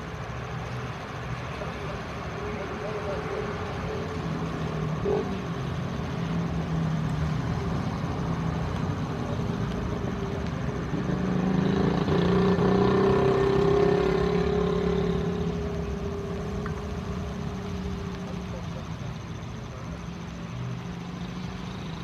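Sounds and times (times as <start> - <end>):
jet engines humming at taxi power: 0.0 - 12.8, 14.0 - 22.0.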